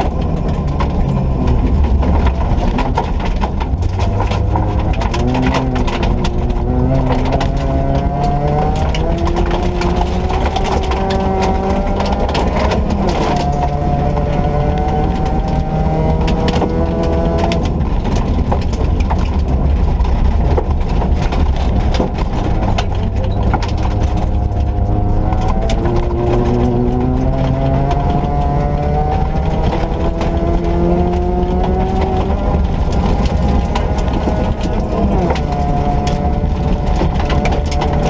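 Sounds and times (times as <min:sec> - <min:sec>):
car clicks and rattles: 0:00.0 - 0:38.0
rally car engine revving: 0:00.0 - 0:38.0.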